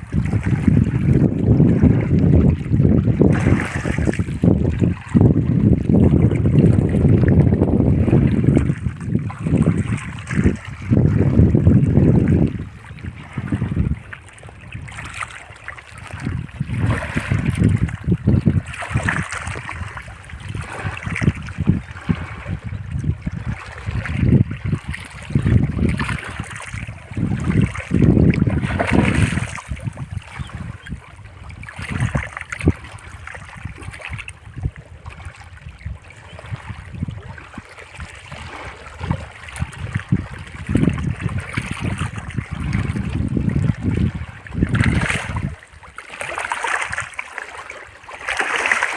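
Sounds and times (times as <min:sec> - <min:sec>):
water sloshing and trickling: 0:00.0 - 0:48.9.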